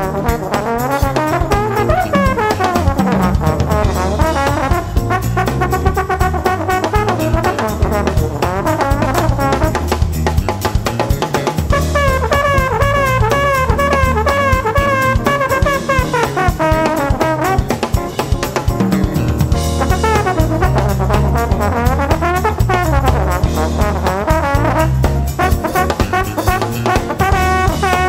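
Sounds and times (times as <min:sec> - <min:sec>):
drum kit groove: 0:00.0 - 0:28.0
electric bass: 0:00.0 - 0:28.0
trombone: 0:00.0 - 0:28.0.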